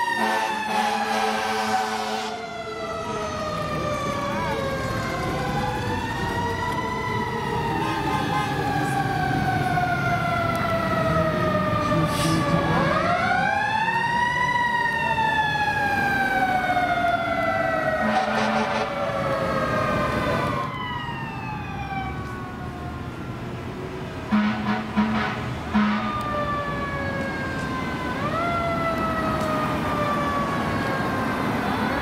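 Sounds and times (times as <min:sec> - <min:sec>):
sirens wailing: 0:00.0 - 0:32.0.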